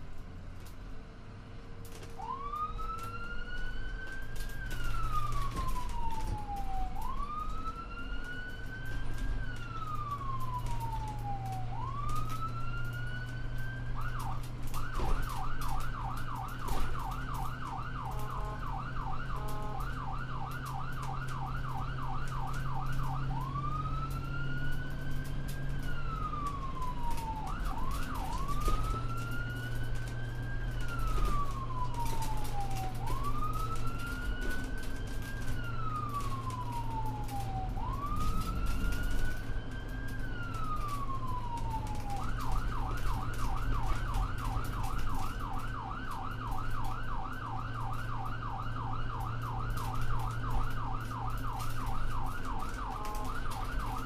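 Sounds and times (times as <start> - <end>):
engine drone and road noise: 0.0 - 54.0
ambulance siren wail and yelp: 1.8 - 54.0.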